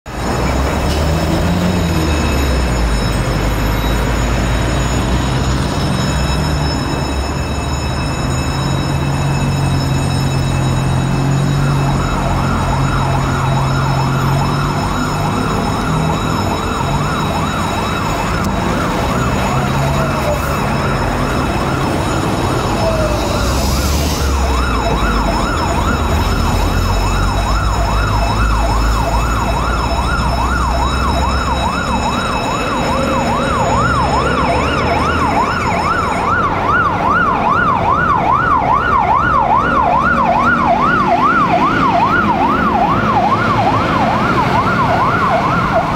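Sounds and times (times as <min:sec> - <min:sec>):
fire engine siren wailing: 0:00.1 - 0:45.9.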